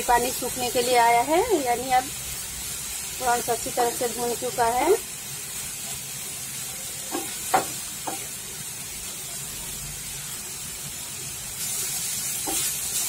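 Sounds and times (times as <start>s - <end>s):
prawns sizzling in oil: 0.0s - 13.0s.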